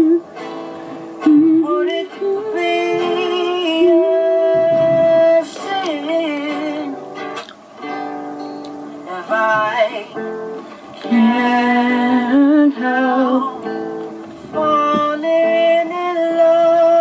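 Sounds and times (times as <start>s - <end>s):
person singing: 0.0s - 7.1s, 9.0s - 10.4s, 11.0s - 17.0s
acoustic guitar: 0.0s - 17.0s.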